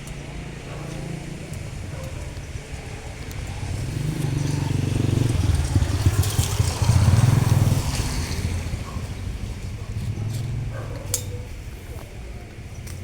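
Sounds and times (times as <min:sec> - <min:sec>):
vehicle engine passing by: 0:00.3 - 0:11.4.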